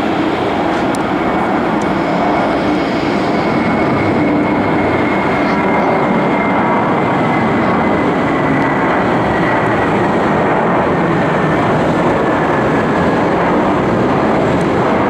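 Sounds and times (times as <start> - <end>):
faint engine whine: 0.0 - 15.0
jet engines roaring: 0.0 - 15.0.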